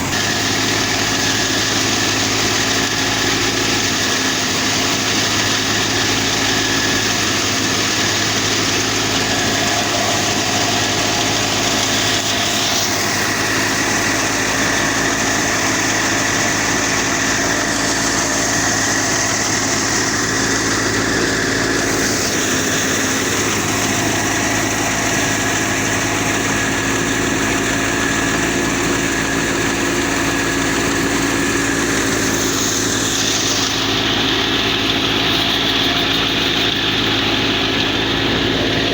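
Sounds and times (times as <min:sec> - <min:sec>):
thresher mechanical drone: 0:00.0 - 0:38.9.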